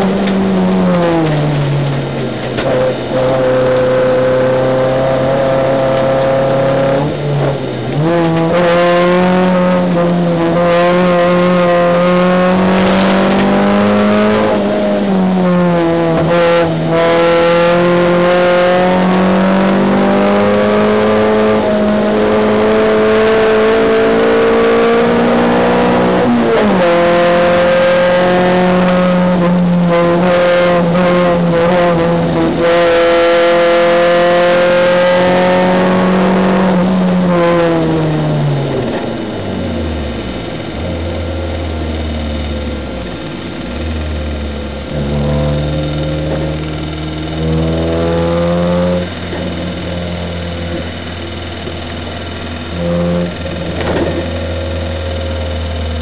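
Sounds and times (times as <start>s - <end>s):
car engine accelerating at high revs: 0.0s - 56.0s.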